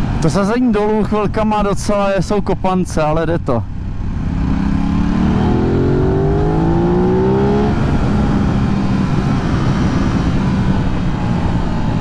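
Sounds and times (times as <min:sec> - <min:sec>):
low rush of wind: 0:00.0 - 0:12.0.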